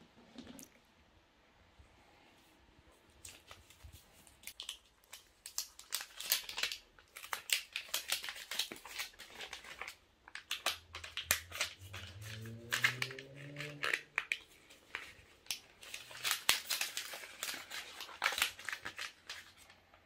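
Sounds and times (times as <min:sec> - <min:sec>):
packaging crinkling and tearing: 0:03.2 - 0:20.0.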